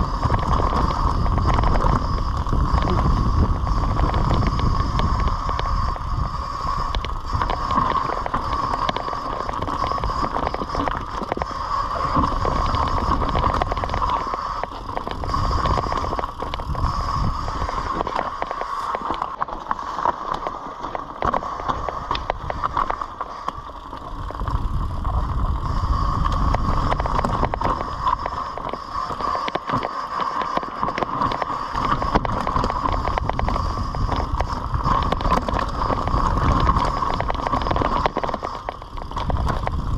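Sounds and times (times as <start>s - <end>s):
wind rumble on microphone: 0.0s - 19.5s, 20.4s - 39.9s
bike rattling and knocking: 0.0s - 39.9s
bike tyres over leaves and roots: 0.0s - 39.9s.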